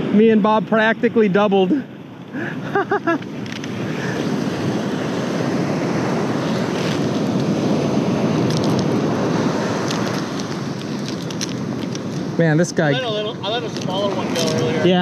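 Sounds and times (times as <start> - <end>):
ocean surf washing up beach: 0.0 - 15.0
wind on microphone: 2.6 - 15.0.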